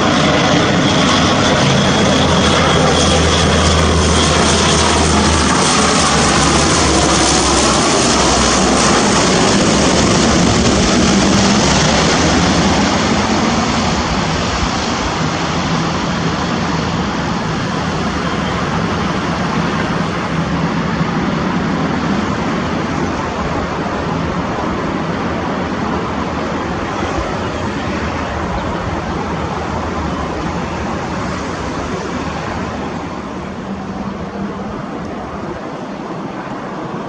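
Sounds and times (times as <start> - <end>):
propeller aircraft passing: 0.0 - 37.0.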